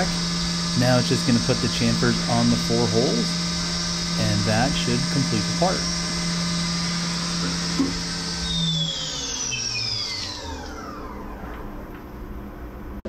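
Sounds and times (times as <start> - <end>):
mill spindle whine: 0.0 - 13.0.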